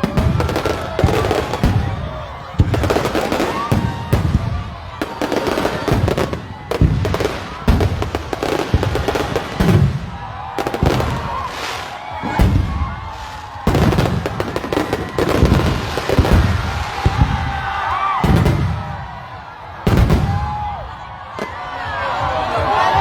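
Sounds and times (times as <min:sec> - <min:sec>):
fireworks crackling: 0:00.0 - 0:21.6
fireworks bangs: 0:00.0 - 0:23.0.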